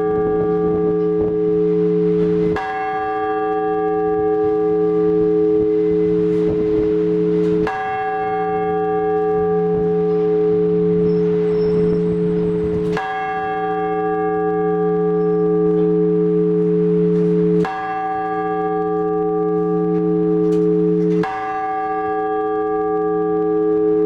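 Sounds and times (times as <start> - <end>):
deep humming tone: 0.0 - 21.3
church bell struck: 0.0 - 24.0.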